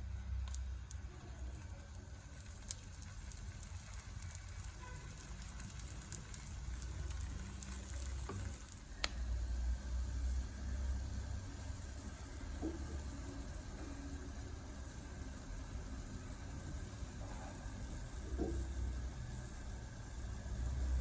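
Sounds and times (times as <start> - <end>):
batter sizzling in a pan: 0.0 - 21.0
low steady hum: 0.0 - 21.0.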